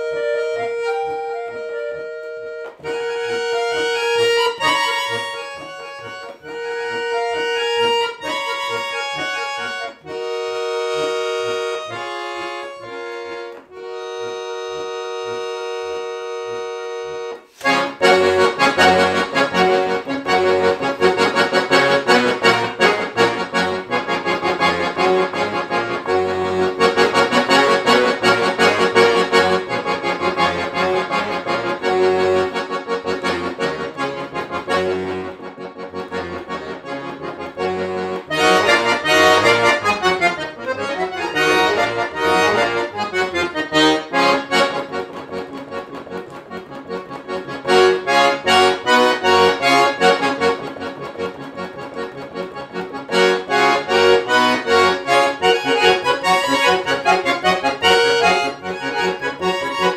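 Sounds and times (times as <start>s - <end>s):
piano accordion playing fast: 0.0s - 59.9s.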